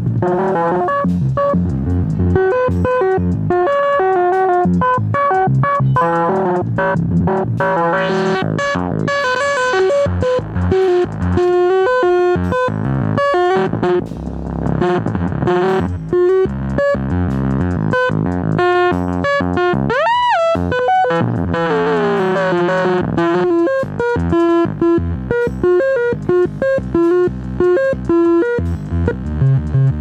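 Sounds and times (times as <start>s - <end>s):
synthesizer sequenced notes: 0.0s - 30.0s.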